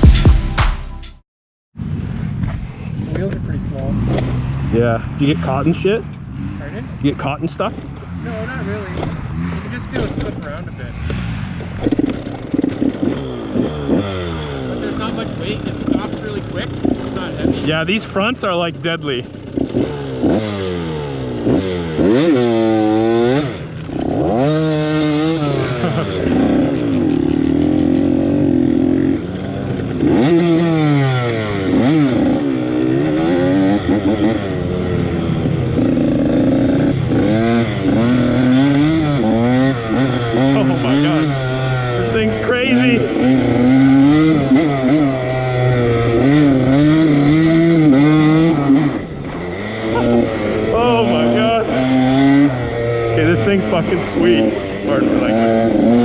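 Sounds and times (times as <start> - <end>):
dirt bike engine revving: 0.0 - 0.6, 3.8 - 56.0.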